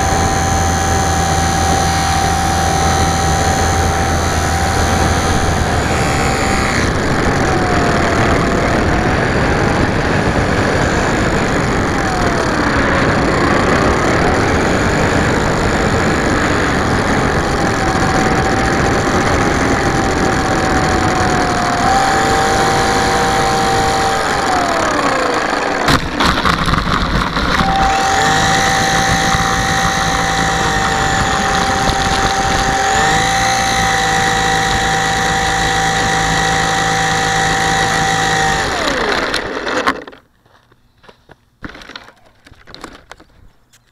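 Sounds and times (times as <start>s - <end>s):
model plane motor whine: 0.0s - 40.2s.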